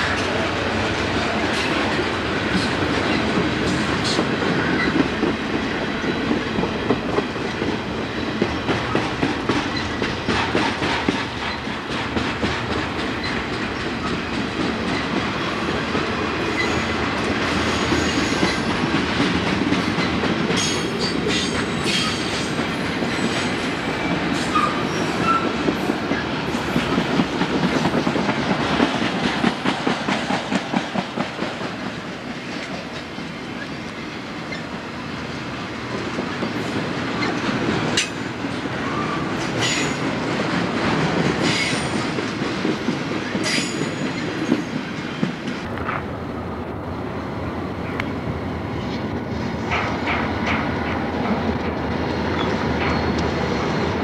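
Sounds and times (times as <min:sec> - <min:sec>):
train wheels clattering over rail joints: 0:00.1 - 0:46.1, 0:49.2 - 0:54.0.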